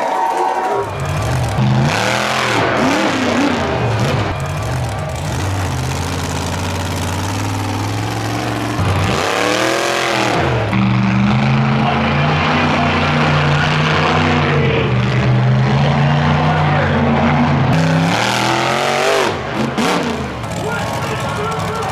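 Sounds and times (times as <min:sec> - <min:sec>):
truck engine revving: 0:00.0 - 0:21.9.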